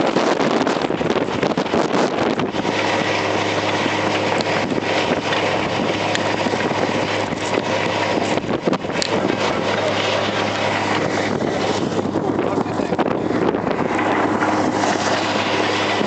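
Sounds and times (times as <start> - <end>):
steady low hum: 0.0 - 16.0
wind blowing across microphone: 0.0 - 16.0.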